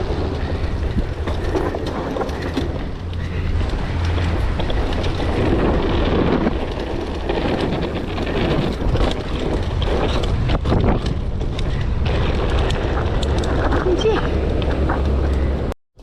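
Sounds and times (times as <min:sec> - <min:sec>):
wind rushing over microphone: 0:00.0 - 0:15.7
mountain bike tyres and rattles: 0:00.0 - 0:15.8.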